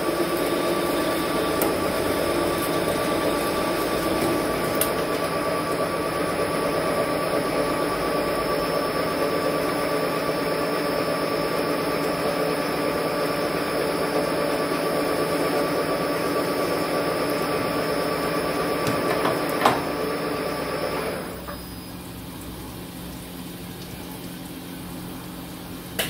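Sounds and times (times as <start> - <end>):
metal lathe running: 0.0 - 21.4
lathe drive whine: 0.0 - 22.0.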